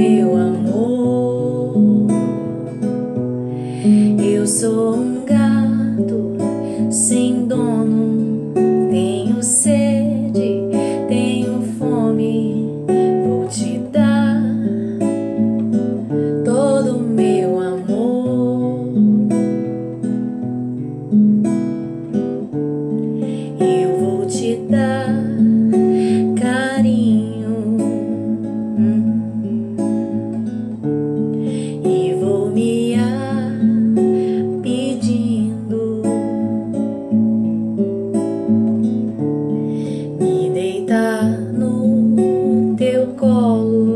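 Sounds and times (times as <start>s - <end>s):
acoustic guitar strumming chords: 0.0s - 43.9s.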